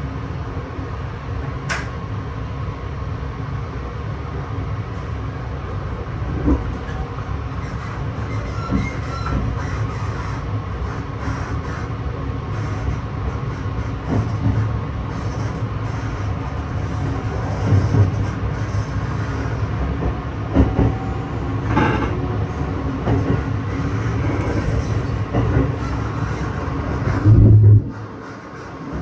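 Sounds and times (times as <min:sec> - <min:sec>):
train rumble inside carriage: 0:00.0 - 0:29.0.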